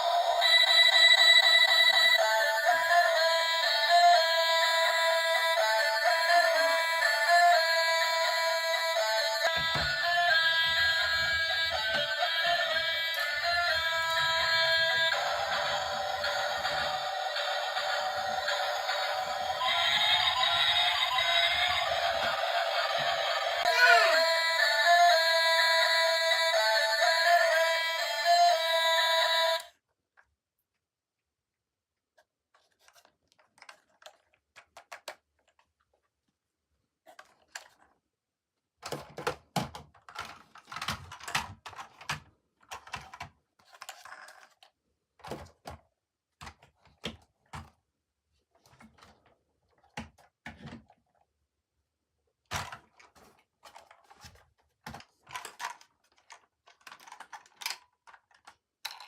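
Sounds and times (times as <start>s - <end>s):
toy packaging and plastic handled: 0.0s - 30.4s, 32.1s - 38.1s, 38.8s - 51.5s, 52.4s - 59.0s.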